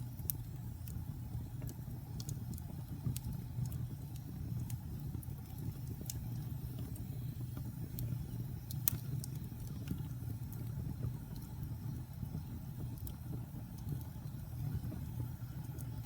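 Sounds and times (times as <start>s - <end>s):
burning logs crackling and popping: 0.0s - 16.0s
fire flames rumbling: 0.0s - 16.0s.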